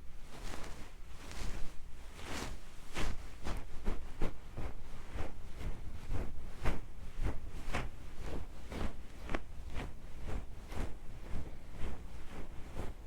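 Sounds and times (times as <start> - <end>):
rubbing strokes on microphone: 0.0 - 13.0.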